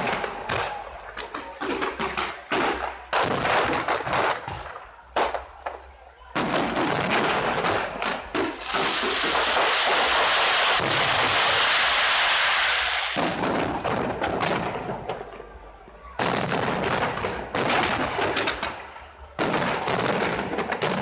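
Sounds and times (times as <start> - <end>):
continuous rush of noise: 0.0 - 21.0
fireworks bursting with loud bangs: 0.0 - 21.0.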